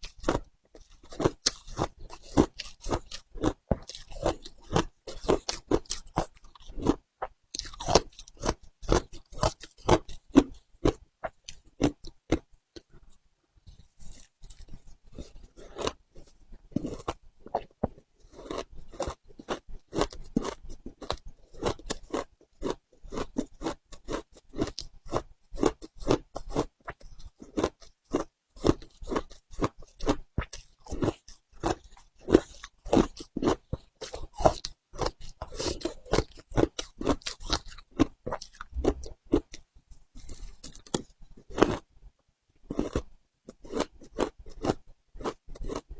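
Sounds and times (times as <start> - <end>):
crunching and chewing ice: 0.0 - 42.0, 42.6 - 45.9.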